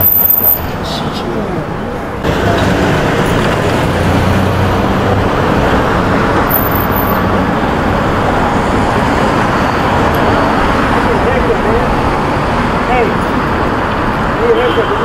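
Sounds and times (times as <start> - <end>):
passing cars: 0.0 - 15.0.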